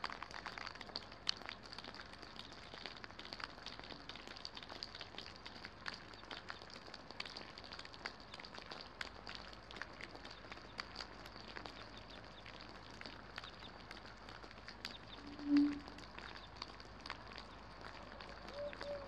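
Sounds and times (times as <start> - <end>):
faint steady rain hiss: 0.0 - 19.0
raindrops ticking: 0.0 - 19.0.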